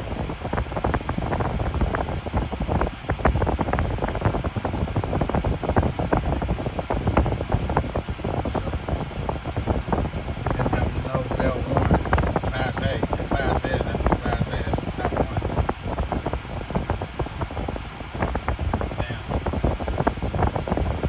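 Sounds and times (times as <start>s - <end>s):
low rushing rumble: 0.0s - 21.0s.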